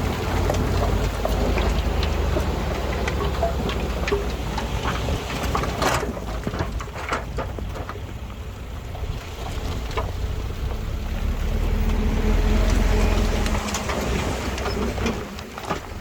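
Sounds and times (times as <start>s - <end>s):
diesel engine rumble: 0.0s - 16.0s.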